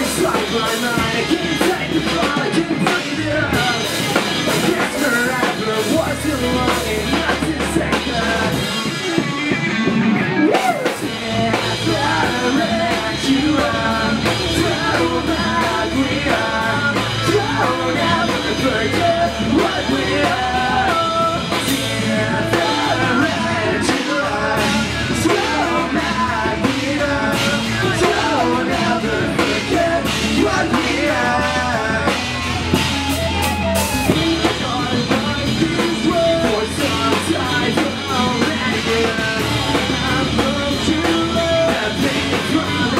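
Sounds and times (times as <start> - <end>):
drum kit: 0.0 - 42.9
electric guitars: 0.0 - 42.9
person singing: 0.0 - 42.9.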